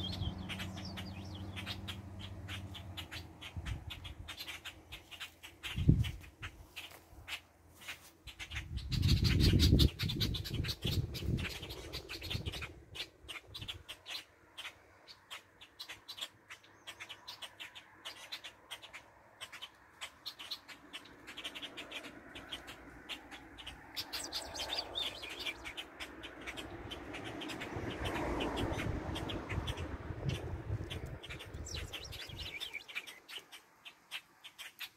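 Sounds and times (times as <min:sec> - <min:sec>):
birds chirping and calling: 0:00.0 - 0:34.9.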